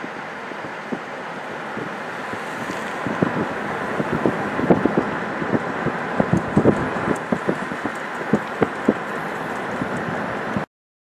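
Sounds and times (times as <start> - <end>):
wind on microphone: 0.0 - 10.7.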